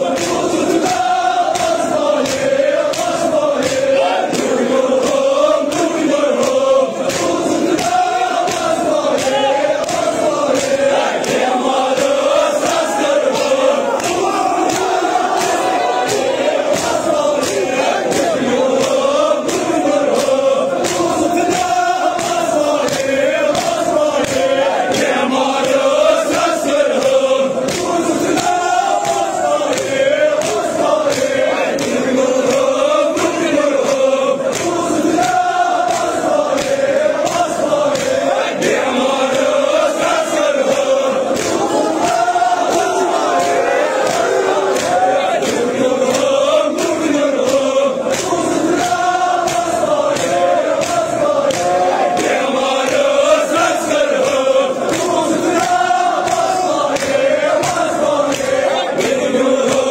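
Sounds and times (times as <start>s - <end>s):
crowd of men chanting: 0.0s - 59.9s.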